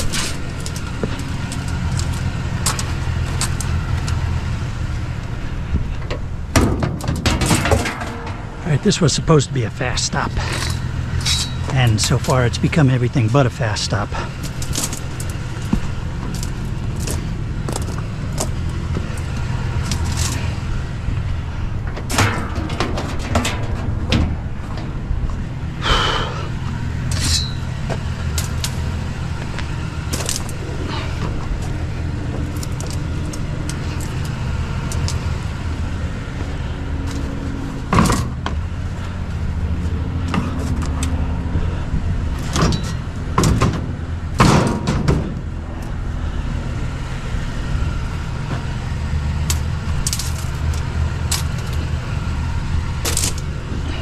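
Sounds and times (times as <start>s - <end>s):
truck engine humming: 0.0s - 54.0s.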